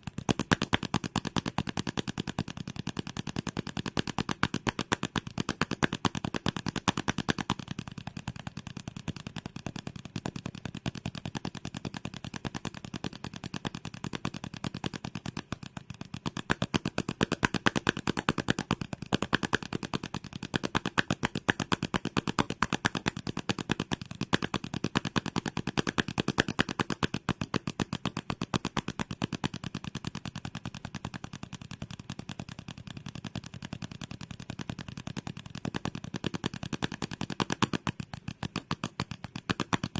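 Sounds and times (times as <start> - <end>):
rapid clicks and taps: 0.0 - 39.9.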